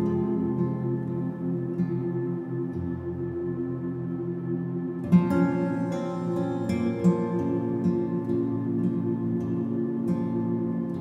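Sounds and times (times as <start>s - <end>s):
slow soft instrumental music: 0.0s - 11.0s.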